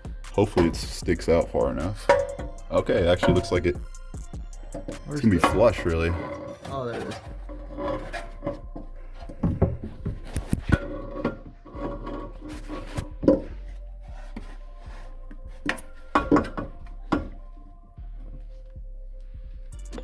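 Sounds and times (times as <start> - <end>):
exhaust pipe metal clanks: 0.0 - 20.0.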